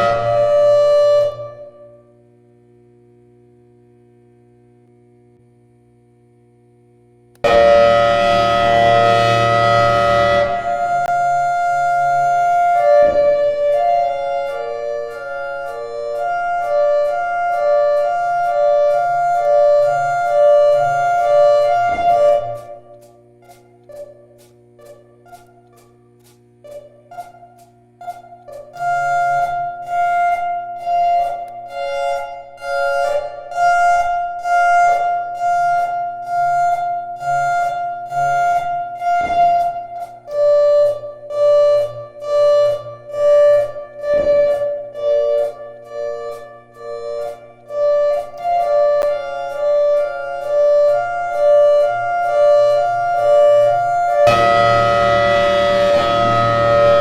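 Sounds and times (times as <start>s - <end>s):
fire alarm siren tones: 0.0s - 2.0s, 7.4s - 25.8s, 26.7s - 57.0s
steady siren tone: 0.0s - 2.1s, 7.4s - 25.9s, 26.7s - 57.0s.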